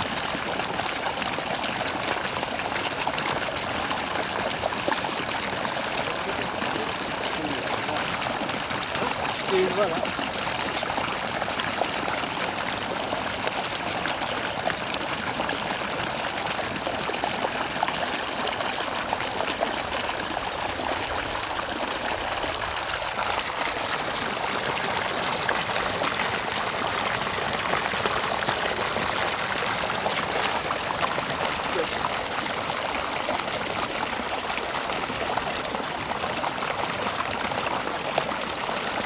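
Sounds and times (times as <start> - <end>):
running water trickling and splashing: 0.0 - 39.0.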